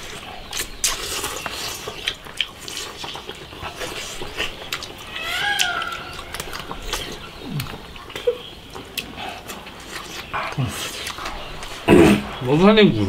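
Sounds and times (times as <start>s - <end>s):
chewing and slurping: 0.0s - 12.6s.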